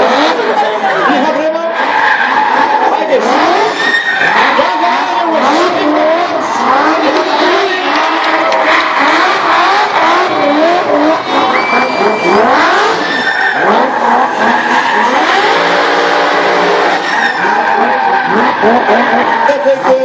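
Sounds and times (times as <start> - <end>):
car engine revving: 0.0 - 20.0
tyres screeching: 1.7 - 20.0.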